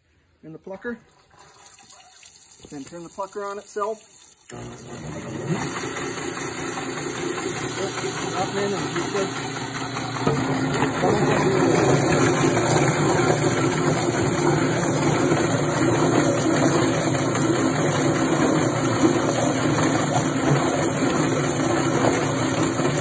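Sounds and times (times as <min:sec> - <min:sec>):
electric motor spinning: 0:04.5 - 0:23.0.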